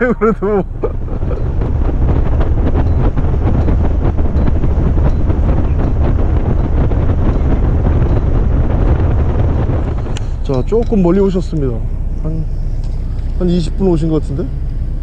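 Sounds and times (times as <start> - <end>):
boat engine running: 0.0 - 15.0
wind buffeting microphone: 0.0 - 15.0.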